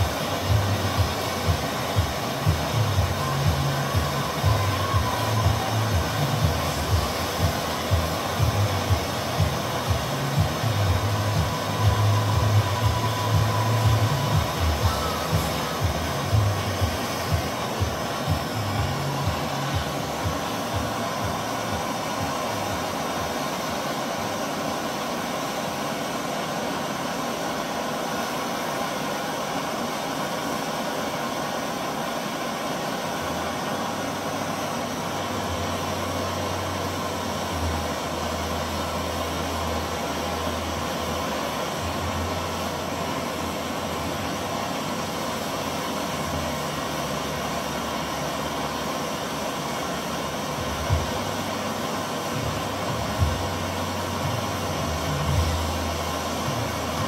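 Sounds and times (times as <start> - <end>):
gas torch flame hissing: 0.0 - 57.0.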